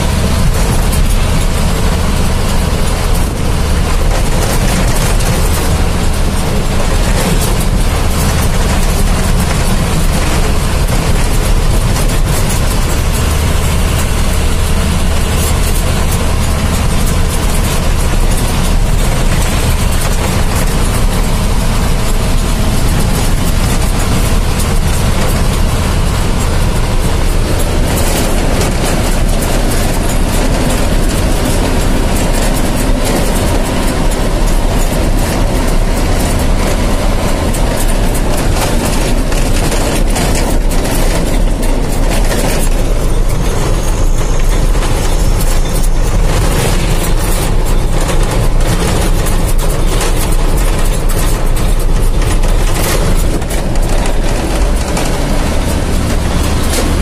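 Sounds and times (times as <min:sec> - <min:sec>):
road and wind noise: 0:00.0 - 0:57.0
vehicle engine hum: 0:00.0 - 0:57.0.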